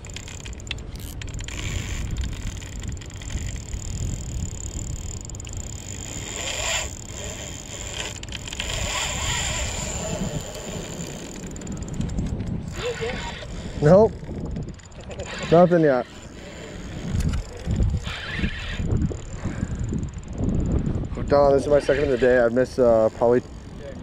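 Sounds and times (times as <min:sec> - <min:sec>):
fishing reel gears whirring: 0:00.0 - 0:24.0.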